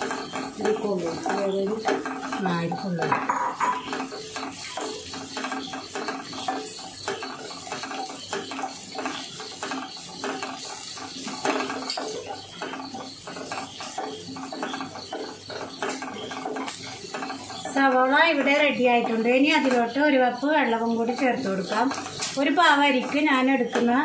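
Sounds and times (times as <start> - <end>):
spatula scraping onions in pan: 0.0 - 24.0.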